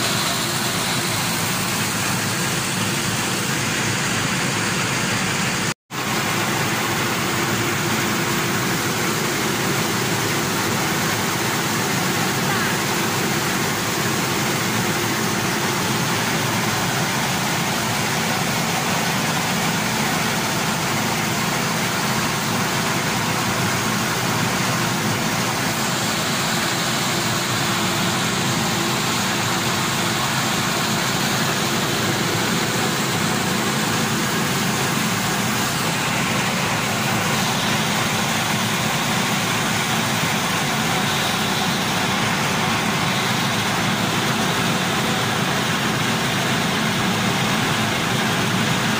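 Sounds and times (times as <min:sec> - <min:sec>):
rice mill machinery running: 0:00.0 - 0:48.9.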